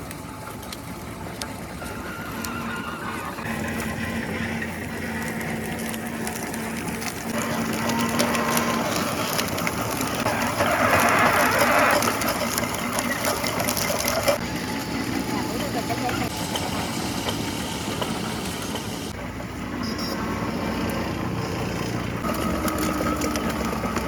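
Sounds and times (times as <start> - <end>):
machine humming and rattling: 0.0 - 24.0.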